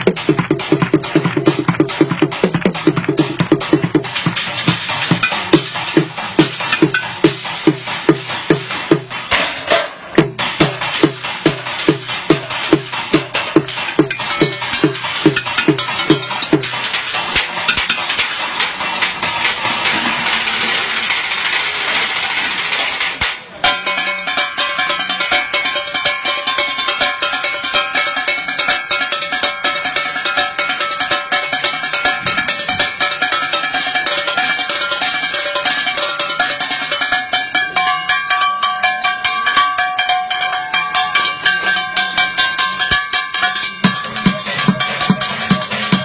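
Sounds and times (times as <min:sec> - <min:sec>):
drumming on pots and buckets: 0:00.0 - 0:46.0.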